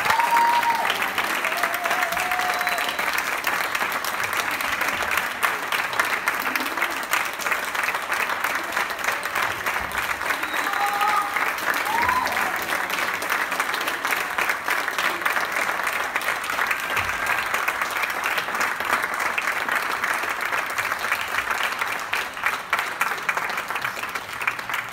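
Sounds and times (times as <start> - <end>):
audience applauding: 0.0 - 24.9.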